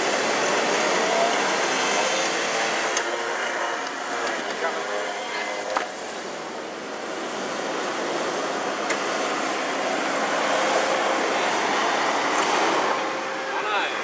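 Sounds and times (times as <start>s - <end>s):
engine and winch rushing: 0.0s - 14.0s.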